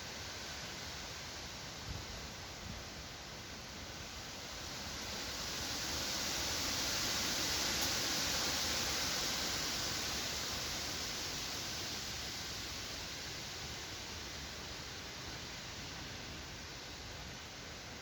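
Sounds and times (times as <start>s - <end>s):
wind through forest trees: 0.0s - 18.0s.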